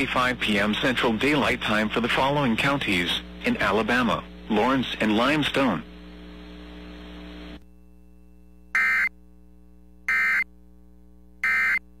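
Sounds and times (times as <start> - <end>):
harsh digital buzzes: 0.0 - 12.0
low steady hum: 0.0 - 12.0.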